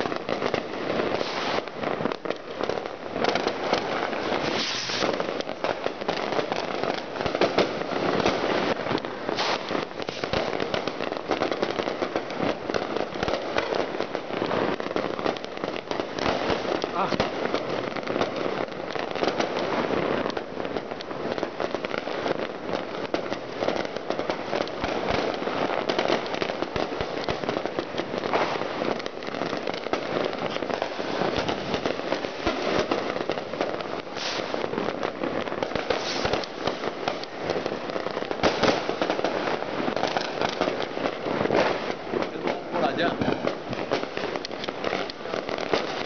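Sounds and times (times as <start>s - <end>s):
firecrackers crackling: 0.0s - 46.0s
loud firework bangs: 0.0s - 46.0s.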